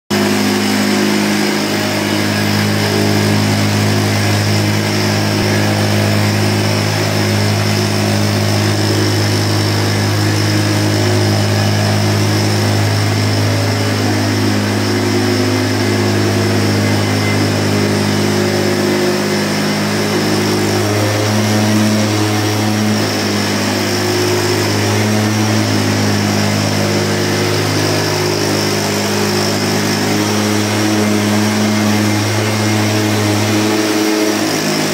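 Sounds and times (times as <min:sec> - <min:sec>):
mist-blower engine droning: 0:00.1 - 0:34.9.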